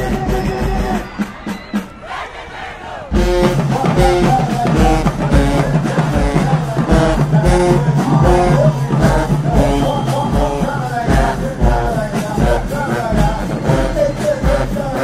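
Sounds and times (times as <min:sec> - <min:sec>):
marching band brass: 0:00.0 - 0:15.0.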